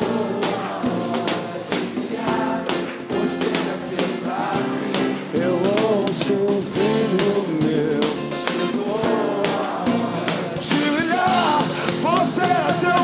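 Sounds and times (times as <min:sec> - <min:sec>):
acoustic worship band playing: 0:00.0 - 0:13.0
percussion strikes: 0:00.0 - 0:13.0
person singing melody: 0:00.0 - 0:13.0.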